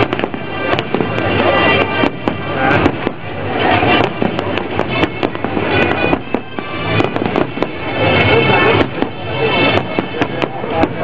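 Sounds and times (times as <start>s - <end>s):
firework crackles: 0.0s - 11.0s
firework shells bursting: 0.0s - 11.0s.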